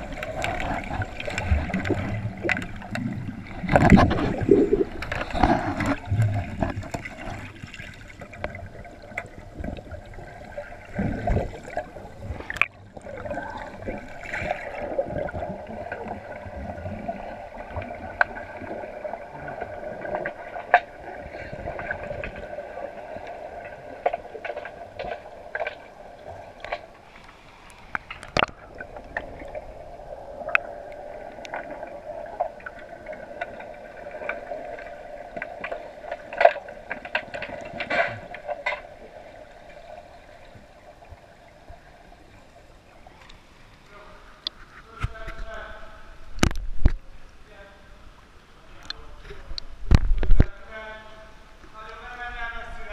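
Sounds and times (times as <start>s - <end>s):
steady underwater hum: 0.0s - 52.9s
underwater rushing and bubbling: 0.0s - 52.9s.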